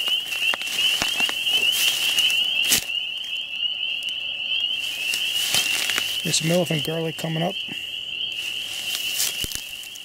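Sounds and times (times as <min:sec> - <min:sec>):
crackles and clicks: 0:00.0 - 0:10.0
trilling animal chorus: 0:00.0 - 0:10.0.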